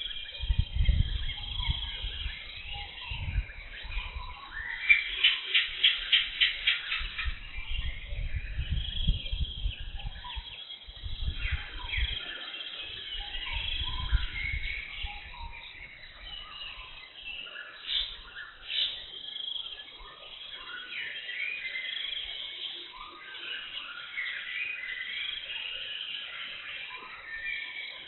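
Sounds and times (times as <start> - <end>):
birds chirping and trilling: 0.0 - 28.0.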